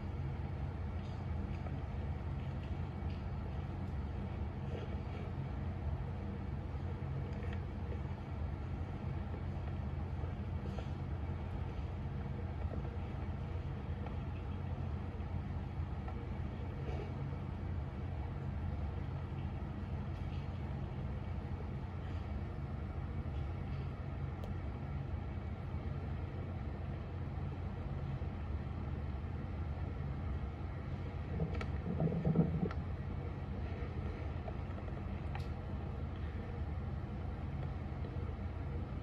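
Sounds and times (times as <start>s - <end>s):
constant hum: 0.0s - 39.0s
low mechanical rumble: 0.0s - 39.0s.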